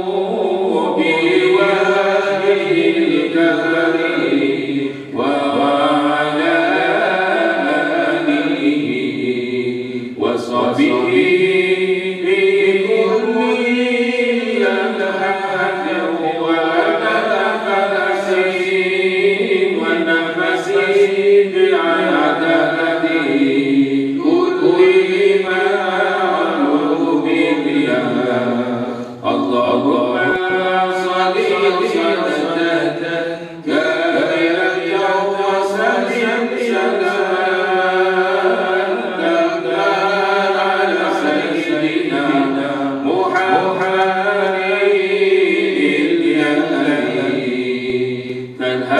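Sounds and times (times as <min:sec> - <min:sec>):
man reciting melodically over loudspeaker: 0:00.0 - 0:48.9.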